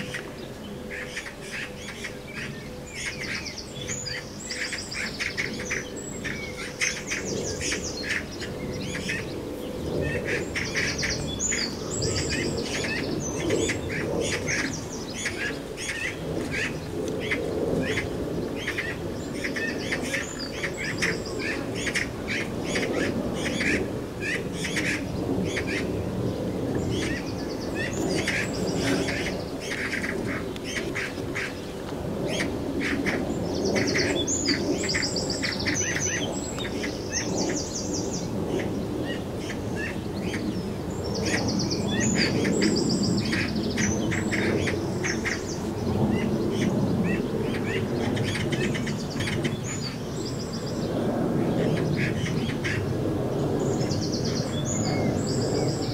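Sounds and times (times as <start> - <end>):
magpies chattering: 0.0 - 26.0, 26.7 - 50.0.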